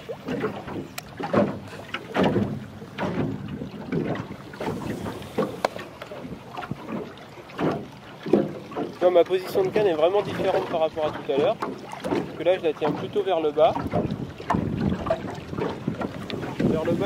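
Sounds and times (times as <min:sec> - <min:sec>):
waves slapping against hull: 0:00.0 - 0:17.0
wind buffeting microphone: 0:00.0 - 0:17.0.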